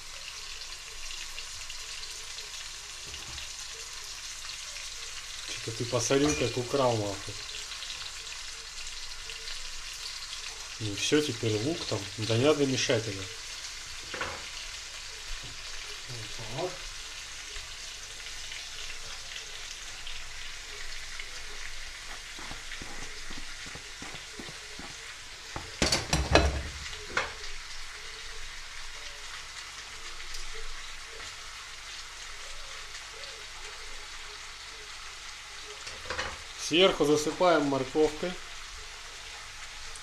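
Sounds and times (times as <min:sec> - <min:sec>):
meat sizzling in oil: 0:00.0 - 0:40.0.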